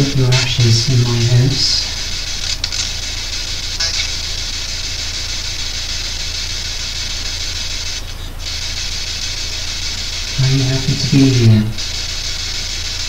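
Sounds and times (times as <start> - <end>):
low electrical hum: 0.0 - 13.0
radio static hiss: 0.0 - 13.0.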